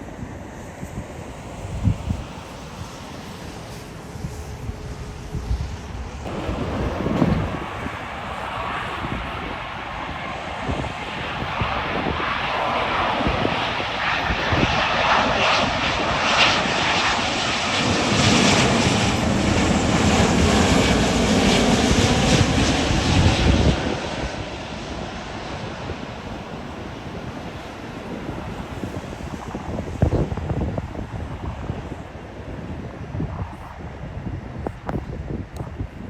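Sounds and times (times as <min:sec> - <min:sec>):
airliner engines passing: 0:00.0 - 0:36.0.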